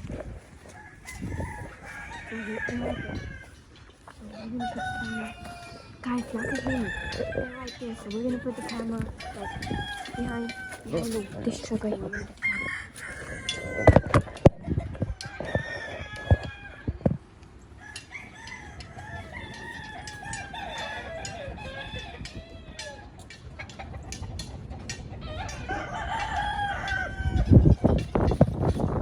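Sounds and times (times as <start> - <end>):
chickens clucking: 0.0 - 29.0
wind buffeting microphone: 0.0 - 29.0
rooster crowing: 0.1 - 23.3, 25.2 - 29.0.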